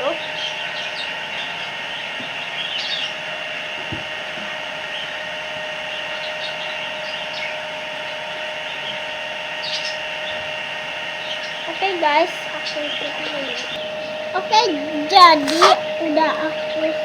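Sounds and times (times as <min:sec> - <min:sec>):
steady tonal hum: 0:00.0 - 0:17.0.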